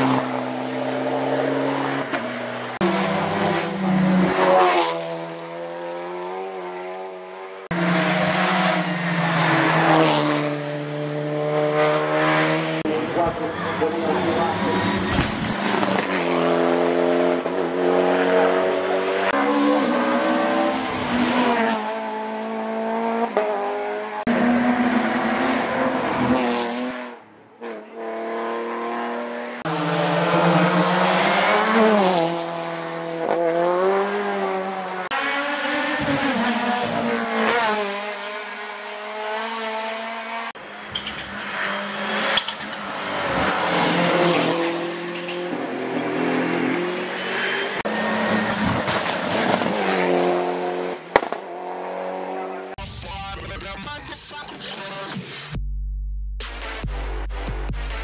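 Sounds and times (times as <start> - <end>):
race cars accelerating uphill: 0.0 - 54.0.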